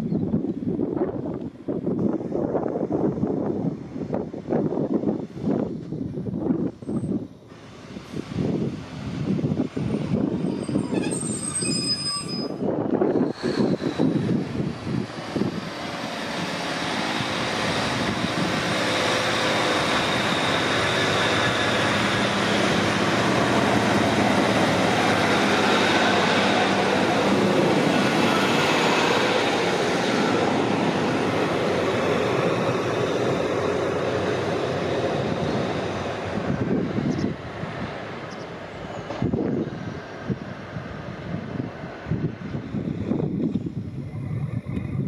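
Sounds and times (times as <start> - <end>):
diesel train engine drone: 0.0 - 45.0.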